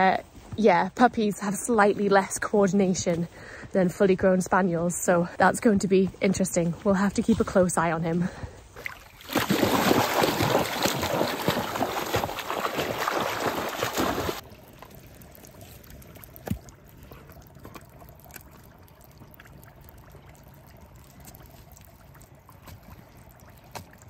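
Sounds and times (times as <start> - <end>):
water splashing and trickling: 1.2 - 24.0.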